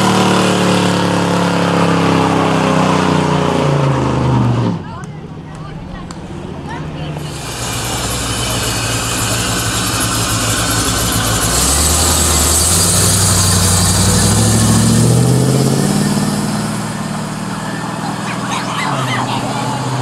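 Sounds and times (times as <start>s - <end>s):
car engine accelerating hard: 0.0s - 5.0s, 5.6s - 20.0s
another engine running: 0.0s - 20.0s.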